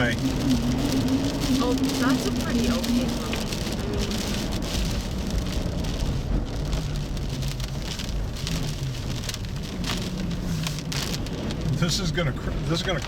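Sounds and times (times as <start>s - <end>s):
rain pattering on vehicle: 0.0s - 13.0s.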